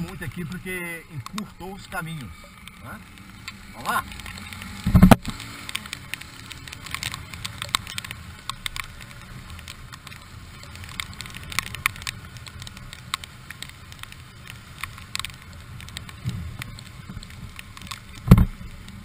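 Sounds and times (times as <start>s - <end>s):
motorcycle engine rumble: 0.0s - 19.0s
rain ticking on camera housing: 0.0s - 19.0s.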